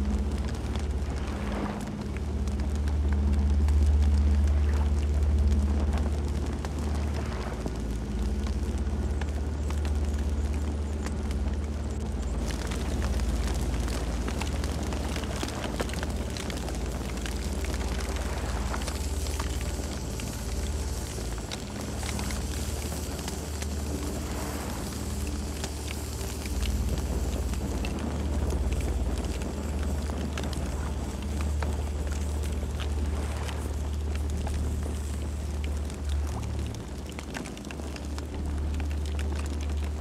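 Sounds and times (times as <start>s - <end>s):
campfire rumble: 0.0s - 40.0s
wood crackling and popping: 0.0s - 40.0s.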